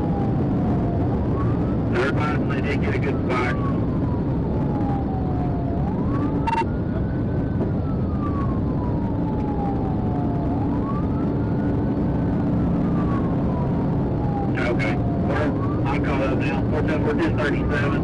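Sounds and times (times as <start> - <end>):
police siren wailing: 0.0 - 18.0
vehicle engine and road rumble: 0.0 - 18.0.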